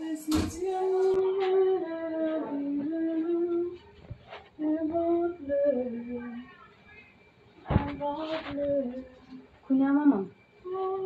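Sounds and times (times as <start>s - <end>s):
woman singing a hymn: 0.0s - 11.0s.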